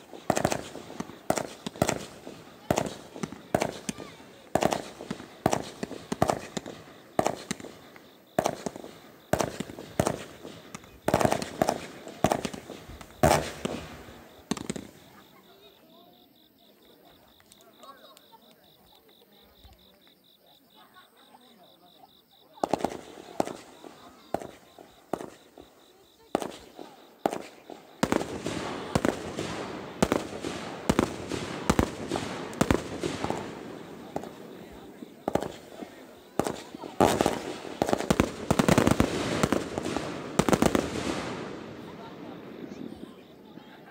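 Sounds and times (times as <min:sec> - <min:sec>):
fireworks bangs with echo: 0:00.0 - 0:15.6, 0:22.6 - 0:43.9.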